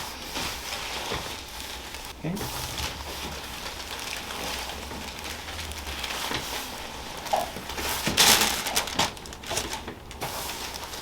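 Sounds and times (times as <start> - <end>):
patient rustling on treatment table: 0.0 - 11.0.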